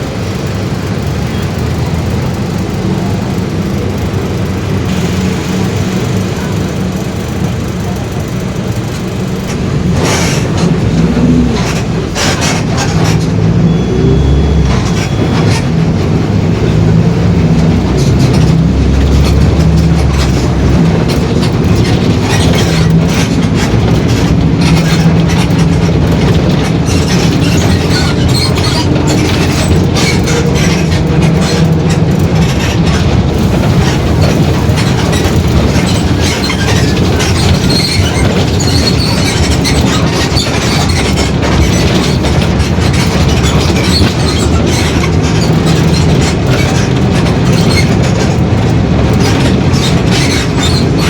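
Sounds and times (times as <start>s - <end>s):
bus body rattling and knocking: 0.0s - 51.0s
bus diesel engine under load: 0.0s - 51.0s.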